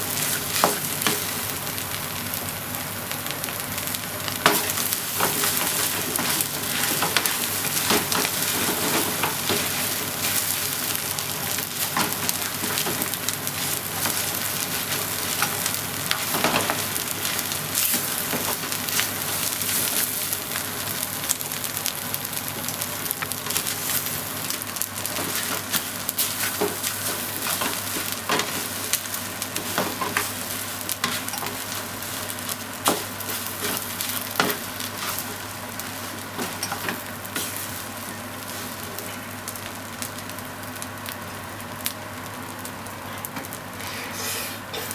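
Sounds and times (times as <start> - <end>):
rice sizzling in a frying pan: 0.0 - 44.9.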